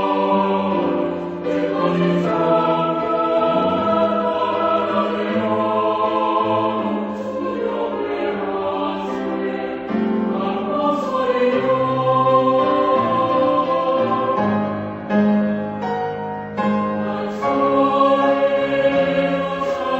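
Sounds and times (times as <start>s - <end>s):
mixed choir singing: 0.0s - 15.1s, 16.6s - 19.9s
piano accompaniment: 0.0s - 19.9s.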